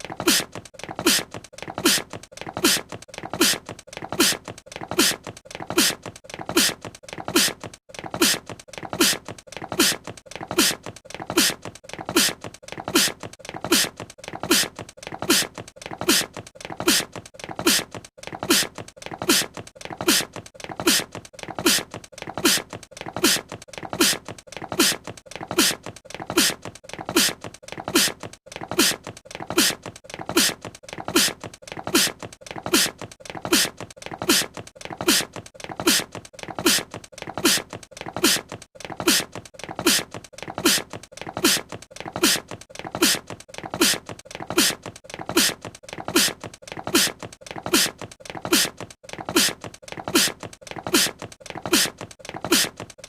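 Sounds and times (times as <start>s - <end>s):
cartoon character sneezing: 0.2s - 52.9s.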